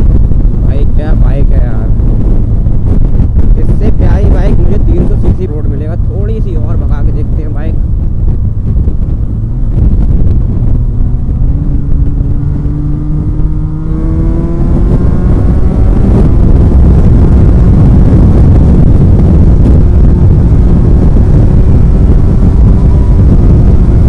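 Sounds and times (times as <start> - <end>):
motorcycle engine accelerating: 0.0 - 24.0
wind buffeting on microphone: 0.0 - 24.0.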